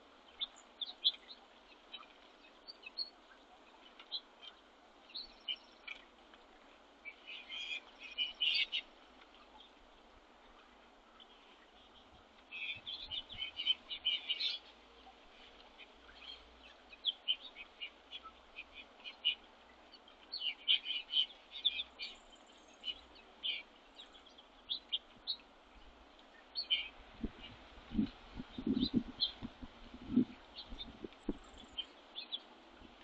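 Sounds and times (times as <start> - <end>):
small songbirds chirping: 0.0 - 33.0.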